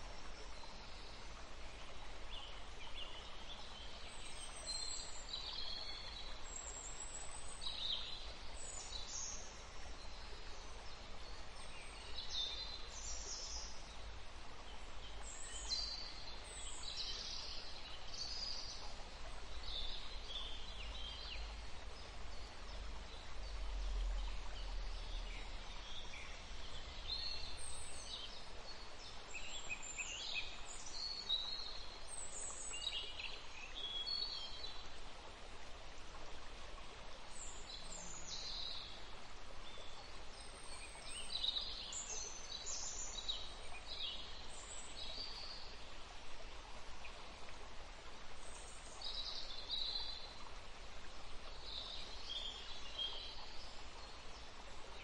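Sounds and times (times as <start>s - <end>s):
distant running water: 0.0s - 55.0s
songbirds chirping: 0.0s - 55.0s.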